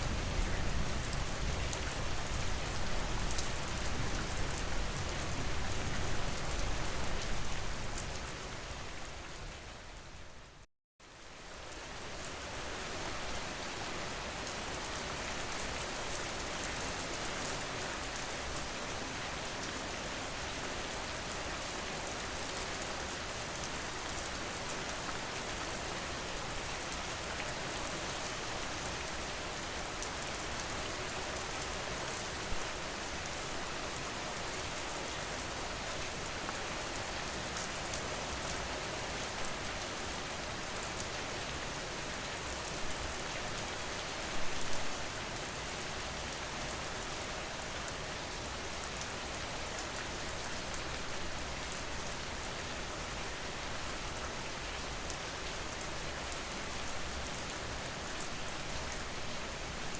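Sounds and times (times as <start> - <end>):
heavy rain with low rumble: 0.0 - 59.9
light pattering rain: 0.0 - 59.9.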